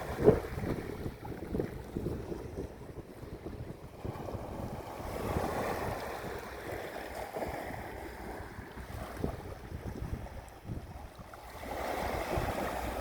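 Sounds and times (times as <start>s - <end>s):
sea waves washing ashore: 0.0s - 13.0s
wind buffeting microphone: 0.0s - 13.0s.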